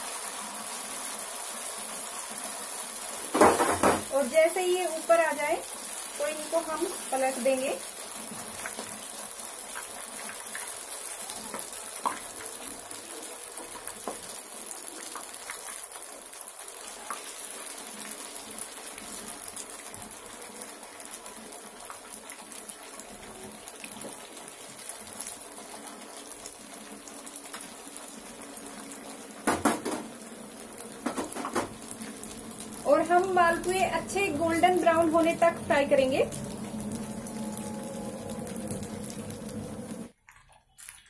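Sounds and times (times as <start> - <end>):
frying sizzle: 0.0 - 40.2.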